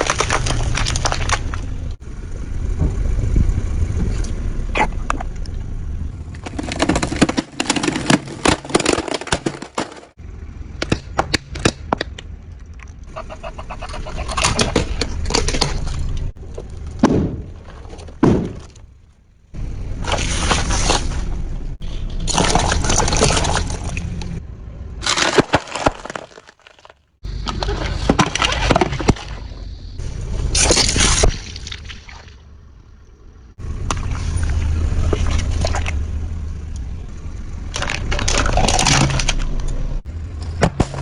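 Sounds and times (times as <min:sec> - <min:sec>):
low engine rumble: 0:00.0 - 0:41.0
objects crunching under vehicle: 0:00.0 - 0:41.0.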